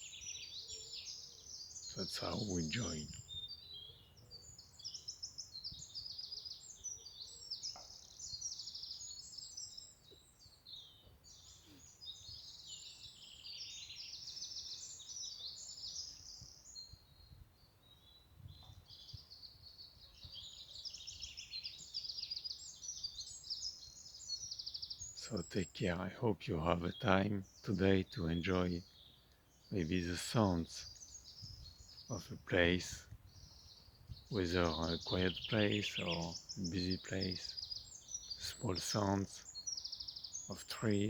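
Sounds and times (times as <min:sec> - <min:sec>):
birds chirping and twittering: 0:00.0 - 0:41.0.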